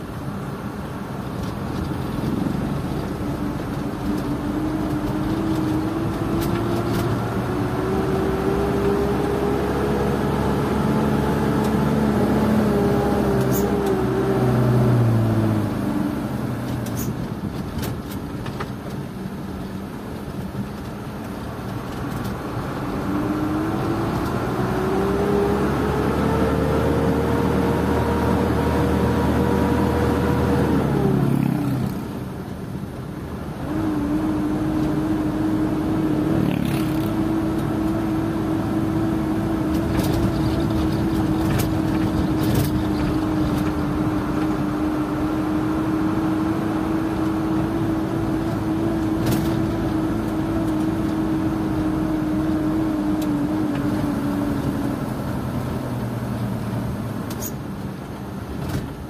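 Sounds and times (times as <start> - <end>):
diesel truck engine: 0.0 - 59.0
tyre and road noise: 0.0 - 59.0.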